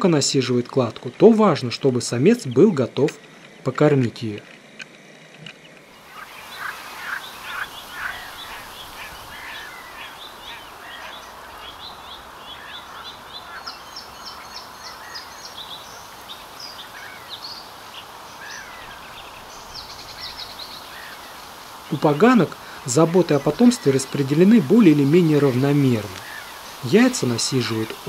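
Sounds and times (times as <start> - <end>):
birds chirping and trilling: 0.0 - 28.0
steady background hiss: 0.0 - 28.0.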